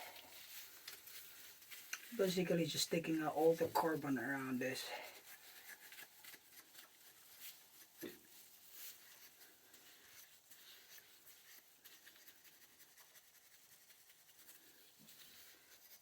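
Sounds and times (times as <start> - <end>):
faint scraping and rubbing: 0.0 - 16.0.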